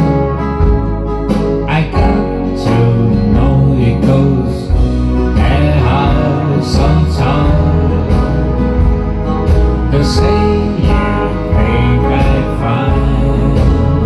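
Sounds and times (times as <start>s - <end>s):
electronic keyboard ballad: 0.0s - 14.0s.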